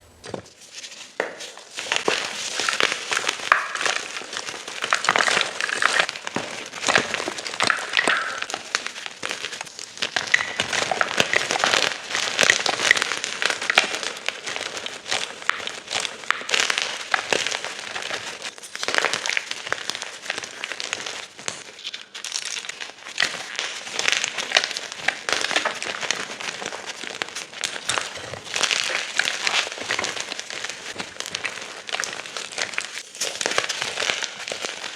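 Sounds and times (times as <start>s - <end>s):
chalk crunching: 0.2s - 34.9s.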